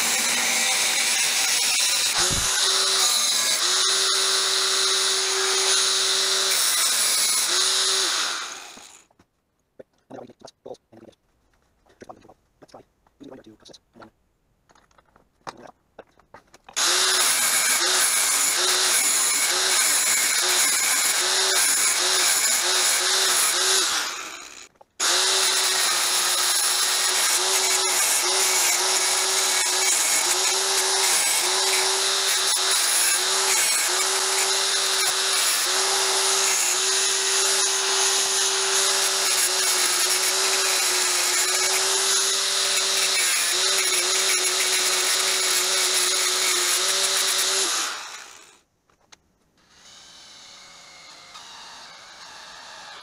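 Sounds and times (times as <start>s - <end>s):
angle grinder cutting steel: 0.0s - 9.1s, 16.8s - 48.6s, 49.6s - 53.0s
cordless drill drilling steel: 0.0s - 9.1s, 16.8s - 48.6s, 49.6s - 53.0s.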